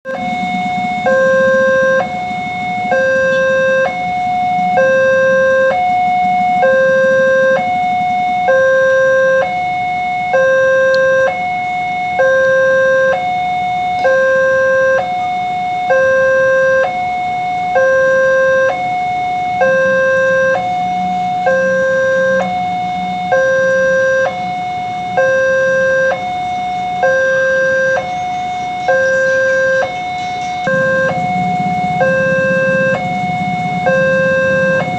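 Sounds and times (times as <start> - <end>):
two-tone crossing alarm: 0.0 - 34.9.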